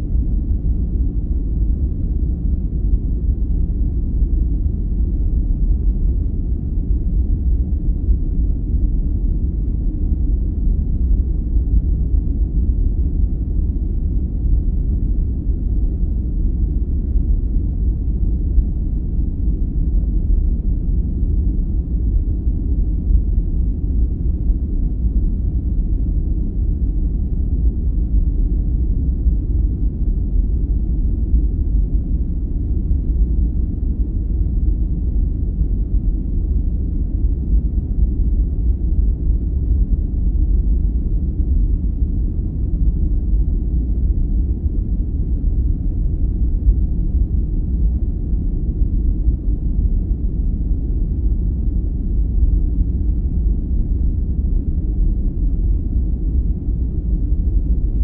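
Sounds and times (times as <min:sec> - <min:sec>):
deep muffled white noise: 0:00.0 - 0:58.0.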